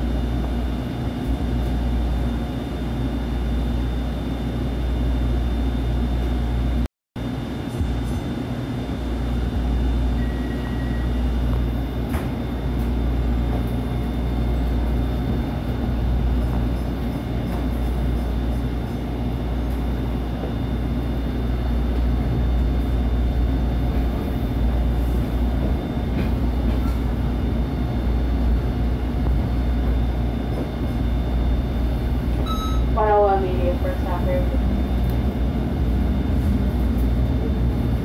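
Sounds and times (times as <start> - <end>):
trolley car rumble: 0.0 - 5.1, 6.0 - 38.0
faint hum tones: 0.0 - 38.0.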